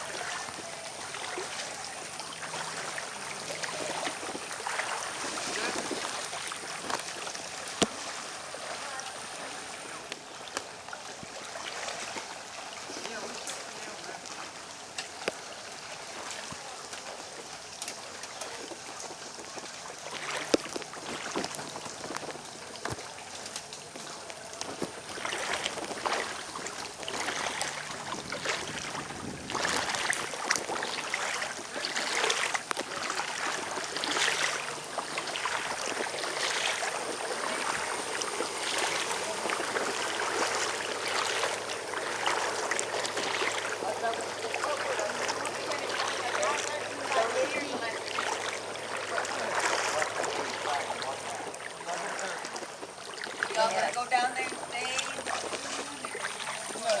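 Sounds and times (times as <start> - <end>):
floodwater sloshing and splashing: 0.0 - 57.0.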